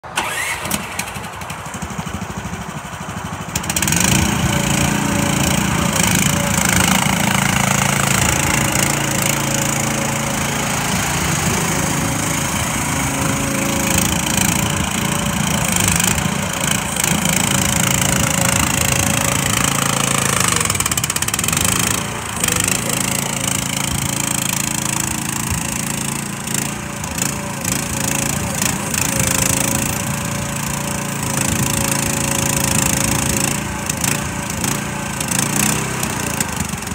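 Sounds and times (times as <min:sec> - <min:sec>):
hydraulic whine: 0:00.0 - 0:01.5, 0:03.5 - 0:36.9
excavator engine running: 0:00.0 - 0:36.9.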